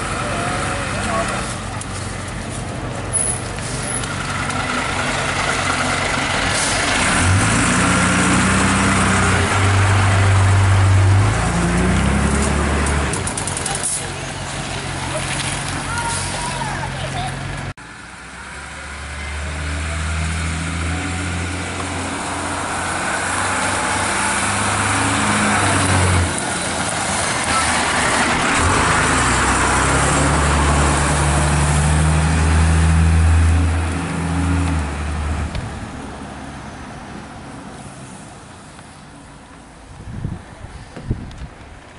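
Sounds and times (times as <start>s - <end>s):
diesel engine drone: 0.0s - 39.9s
tyre and road noise: 0.0s - 41.9s.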